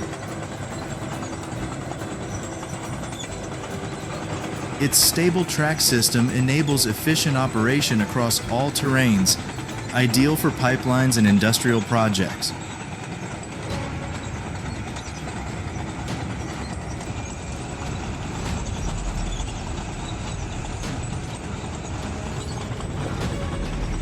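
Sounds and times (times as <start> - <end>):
heavy machine running: 0.0 - 24.0.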